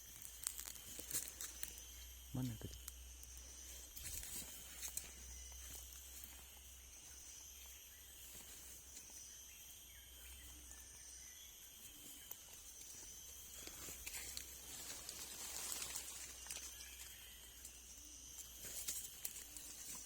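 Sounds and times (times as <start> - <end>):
faint insect chorus: 0.0 - 20.0.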